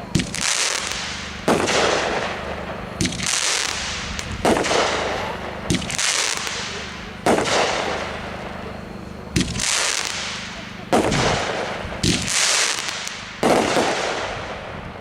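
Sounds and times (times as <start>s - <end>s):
firework cake shots: 0.1s - 14.7s.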